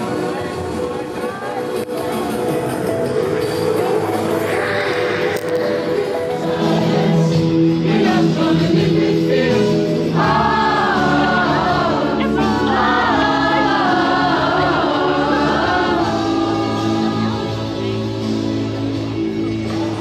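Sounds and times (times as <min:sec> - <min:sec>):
singing voices: 0:00.0 - 0:20.0.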